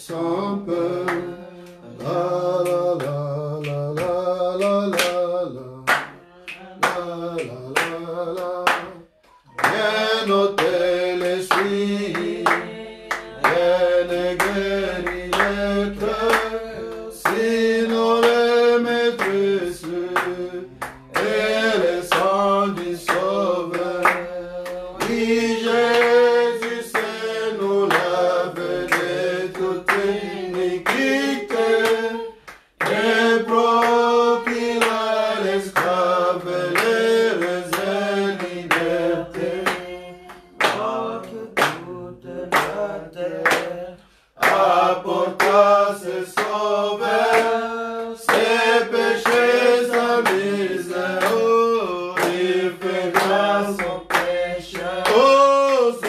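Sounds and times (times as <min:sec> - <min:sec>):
people singing a hymn: 0:00.0 - 0:56.0
hand claps: 0:01.0 - 0:42.8, 0:43.4 - 0:43.8, 0:44.4 - 0:56.0.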